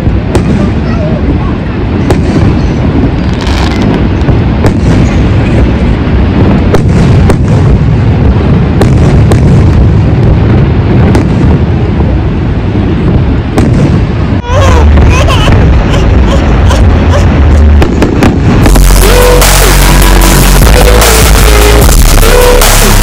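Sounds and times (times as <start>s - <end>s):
fireworks bangs and crackles: 0.0s - 23.0s
loud steady low rumble: 0.0s - 23.0s.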